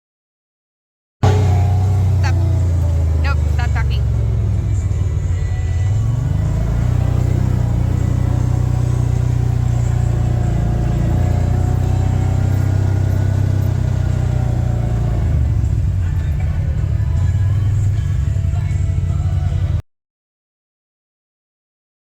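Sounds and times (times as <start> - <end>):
atv engine running: 1.2 - 19.8
faint engine whine: 1.2 - 19.8.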